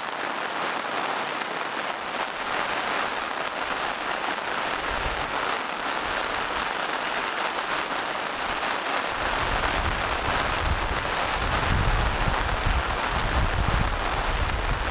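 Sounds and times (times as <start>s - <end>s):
rain falling in forest: 0.0s - 14.9s.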